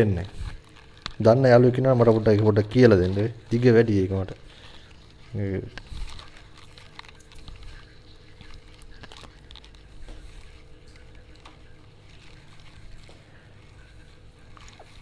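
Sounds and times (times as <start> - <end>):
cable rustling and clicks: 0.0 - 15.0
steady low hum: 0.0 - 15.0.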